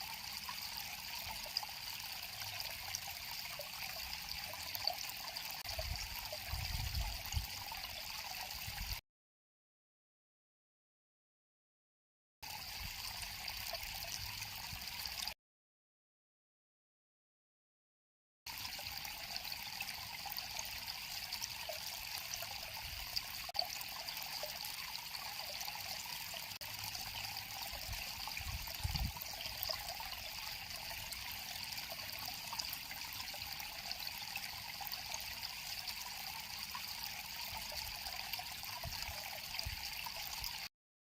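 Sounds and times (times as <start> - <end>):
river water trickling: 0.0 - 9.0, 12.4 - 15.4, 18.5 - 40.7.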